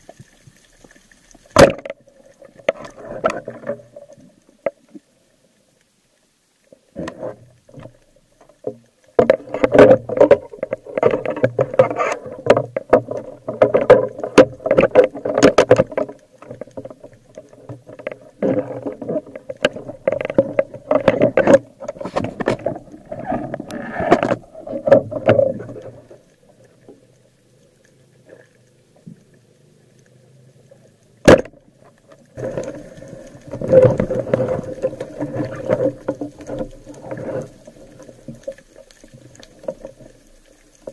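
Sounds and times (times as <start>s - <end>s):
underwater water rushing: 0.0s - 5.2s, 6.8s - 40.9s.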